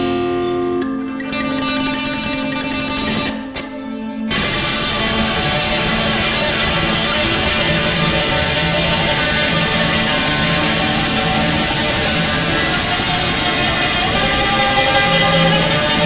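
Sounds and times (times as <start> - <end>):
effects-processed double bass: 0.0 - 16.0
mouth organ drone: 0.0 - 16.0
pipa plucked and strummed: 0.0 - 16.0.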